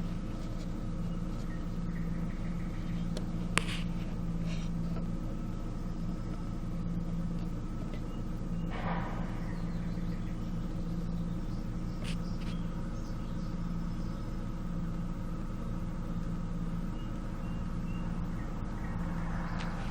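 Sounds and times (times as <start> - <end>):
car engine running steadily: 0.0 - 19.9.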